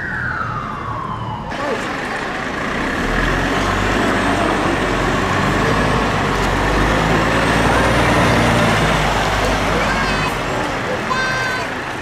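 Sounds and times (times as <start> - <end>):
fire truck diesel engine pulling away: 0.0 - 12.0
tyre and road noise: 0.0 - 12.0.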